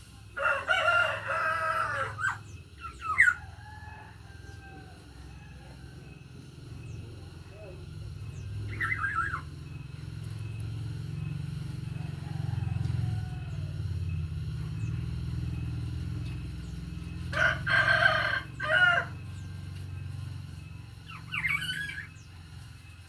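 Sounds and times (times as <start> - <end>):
steady low hum: 0.0 - 23.0
rooster crowing: 0.2 - 8.0, 10.7 - 22.5.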